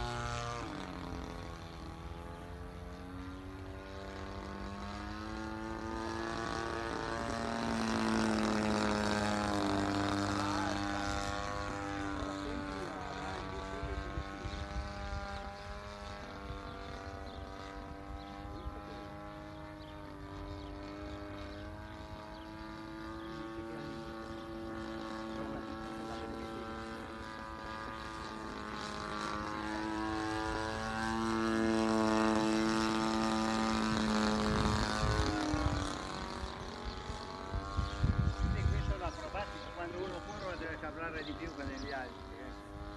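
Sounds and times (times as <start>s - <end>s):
propeller plane droning: 0.0s - 42.9s.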